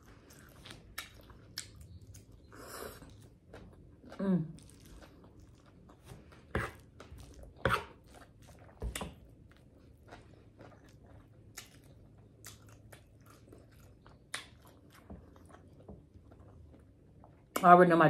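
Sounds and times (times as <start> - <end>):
chewing and lip smacking: 0.0 - 17.6.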